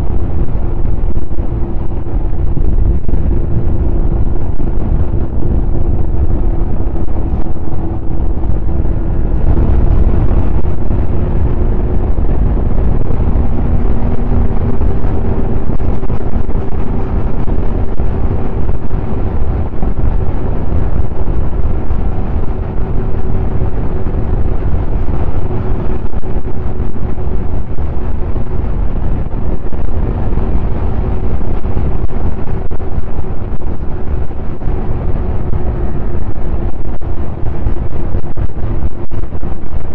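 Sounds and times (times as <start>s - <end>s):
snowmobile engine running: 0.0s - 39.9s
wind rumble on microphone: 0.0s - 39.9s.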